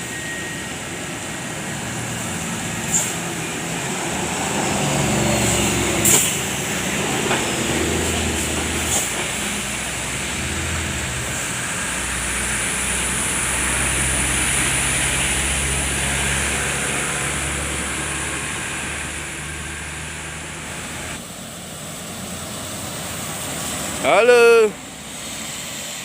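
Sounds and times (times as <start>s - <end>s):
heavy vehicle engine rumble: 0.0s - 26.0s.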